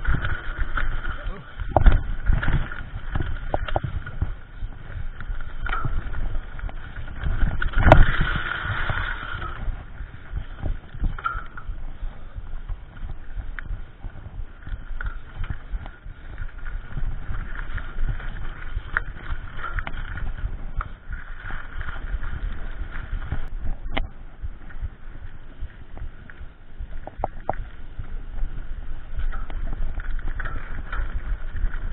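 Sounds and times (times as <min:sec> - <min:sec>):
bike rattling over dirt trail: 0:00.0 - 0:31.9
hard bike jolt: 0:00.0 - 0:31.9.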